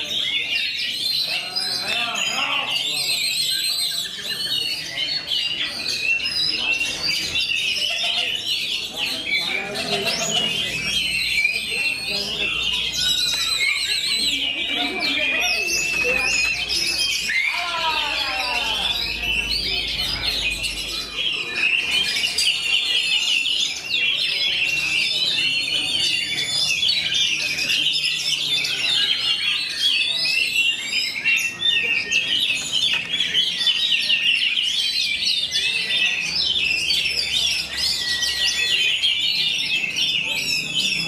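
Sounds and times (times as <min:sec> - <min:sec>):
birds singing whistles and trills: 0:00.0 - 0:41.0.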